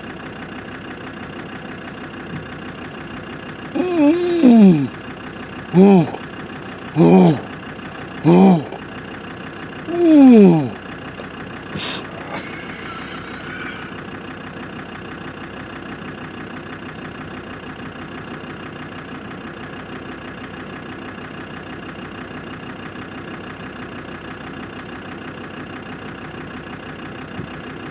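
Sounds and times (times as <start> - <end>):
vehicle engine idling: 0.0 - 27.9.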